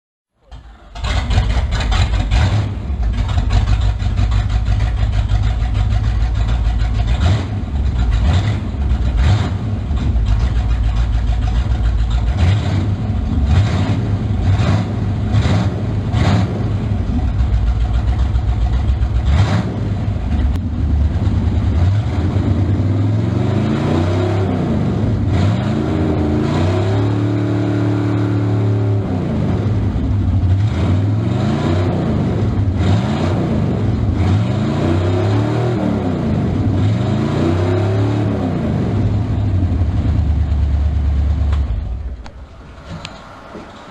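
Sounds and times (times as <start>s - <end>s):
car engine starting and revving: 0.4s - 43.9s.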